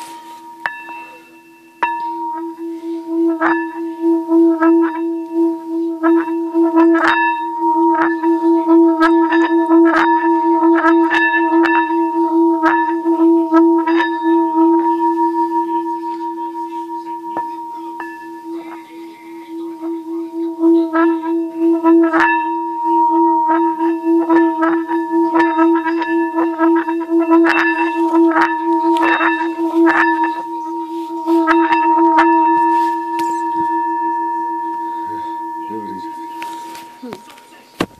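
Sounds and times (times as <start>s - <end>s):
singing bowl ringing: 0.0s - 37.8s.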